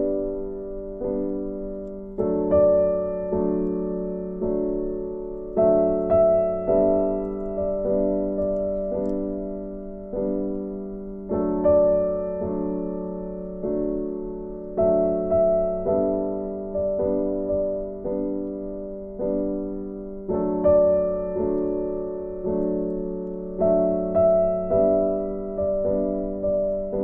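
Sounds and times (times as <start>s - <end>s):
slow piano piece: 0.0s - 27.0s.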